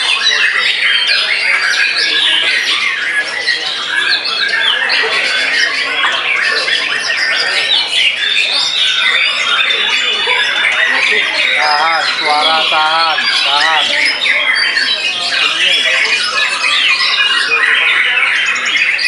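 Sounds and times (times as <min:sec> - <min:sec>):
chorus of songbirds singing: 0:00.0 - 0:19.0.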